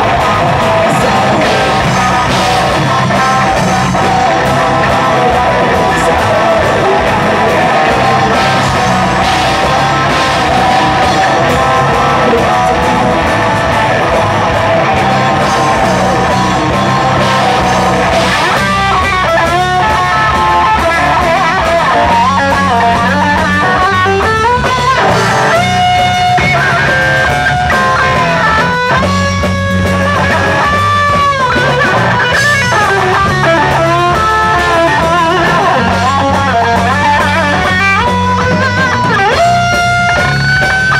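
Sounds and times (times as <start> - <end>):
black metal band playing: 0.0 - 40.9
electric guitar lead with bending notes: 0.0 - 40.9.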